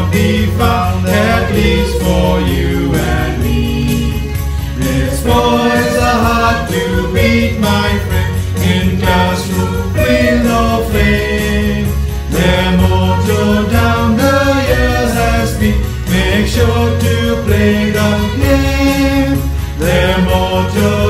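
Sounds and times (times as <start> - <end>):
choir singing: 0.0 - 21.0
instrumental accompaniment: 0.0 - 21.0
steady bass: 0.0 - 21.0.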